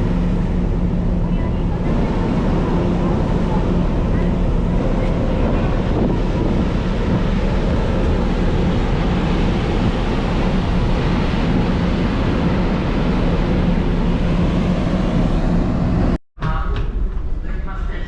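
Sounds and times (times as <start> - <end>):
wind and water rushing: 0.0 - 16.2
ferry engine hum: 0.0 - 18.0.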